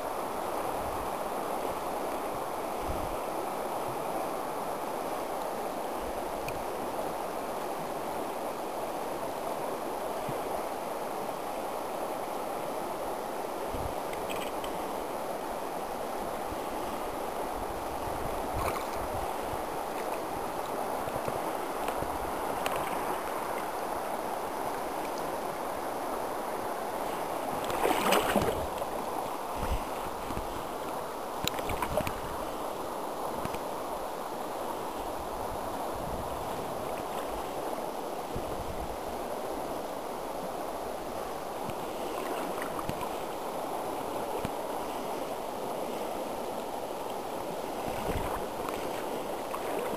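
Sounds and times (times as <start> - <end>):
river water rushing and lapping: 0.0 - 49.9.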